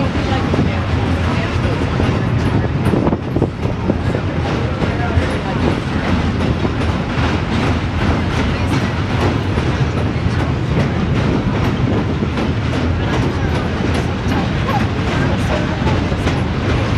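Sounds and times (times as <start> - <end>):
train rumbling and rushing: 0.0 - 16.9
wheels clicking over rails: 0.0 - 16.9.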